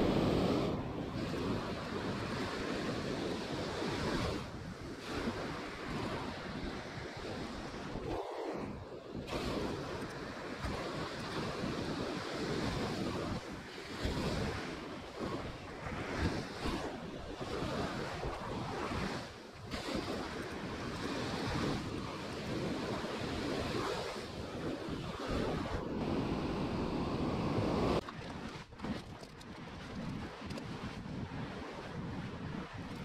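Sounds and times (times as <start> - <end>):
ocean surf breaking on beach: 0.0 - 33.0
wind buffeting microphone: 0.0 - 33.0.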